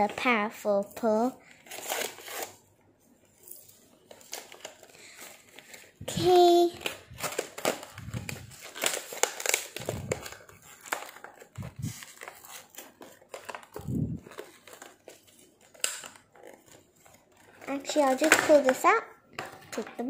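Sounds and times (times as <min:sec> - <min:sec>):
packaging crinkling: 0:01.4 - 0:02.6, 0:03.4 - 0:18.8.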